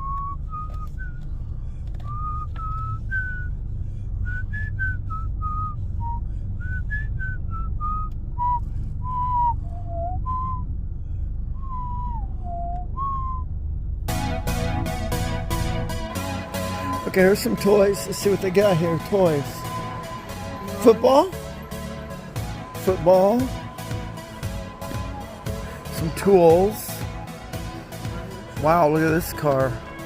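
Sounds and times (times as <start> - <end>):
person whistling a tune: 0.0 - 1.3, 2.0 - 3.6, 4.3 - 10.7, 11.6 - 13.5, 15.2 - 28.1
low background rumble: 0.0 - 30.0.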